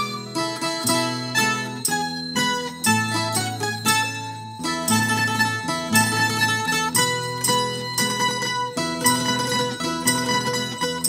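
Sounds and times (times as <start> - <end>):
plucked string instruments playing: 0.0 - 11.0.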